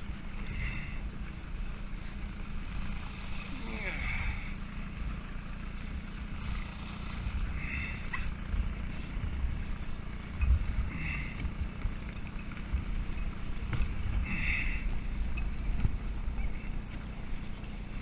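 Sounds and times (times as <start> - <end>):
boat motor droning: 0.0 - 18.0
wind: 0.0 - 18.0.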